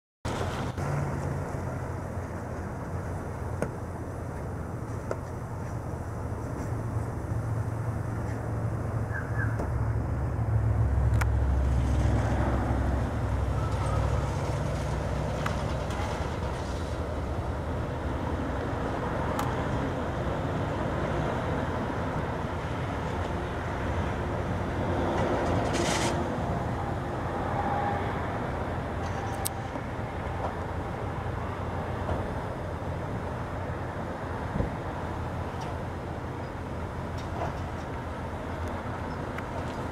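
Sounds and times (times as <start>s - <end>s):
low outdoor rumble: 0.3s - 39.9s.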